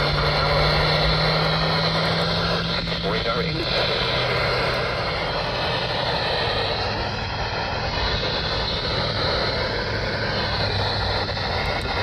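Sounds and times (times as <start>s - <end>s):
low hum: 0.0s - 12.0s
radio static hiss: 0.3s - 12.0s.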